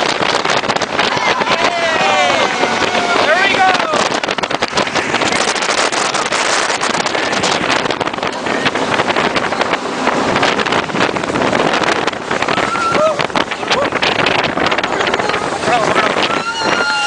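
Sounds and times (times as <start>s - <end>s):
jet boat engine: 0.0s - 17.0s
wind buffeting microphone: 0.0s - 17.0s.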